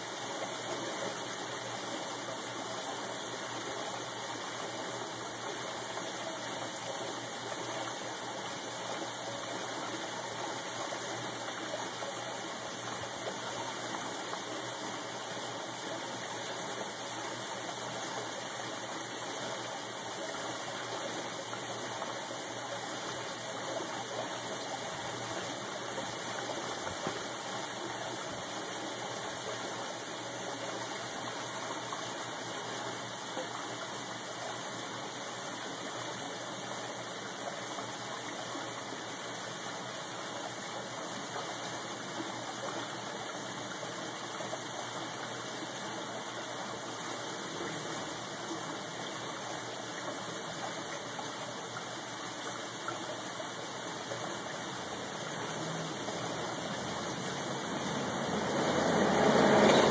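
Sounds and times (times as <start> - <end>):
fish tank water circulating: 0.0 - 59.9.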